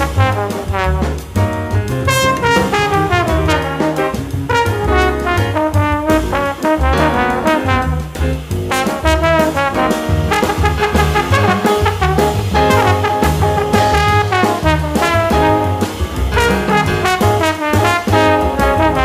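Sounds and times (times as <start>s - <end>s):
music with brass and bass beat: 0.0s - 19.0s.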